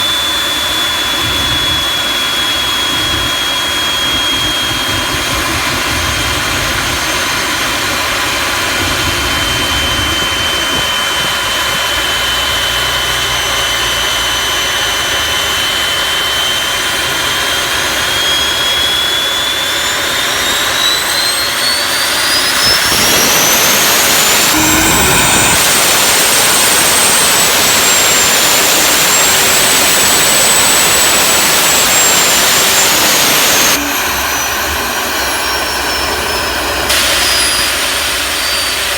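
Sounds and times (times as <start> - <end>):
jet engine turbine whine: 0.0 - 38.9.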